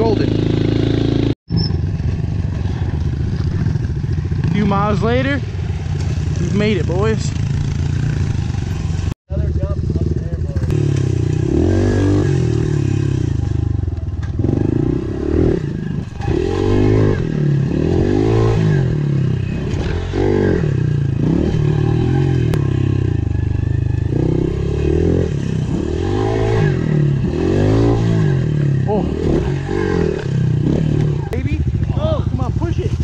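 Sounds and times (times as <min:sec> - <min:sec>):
motorbike engine revving: 0:00.0 - 0:33.0.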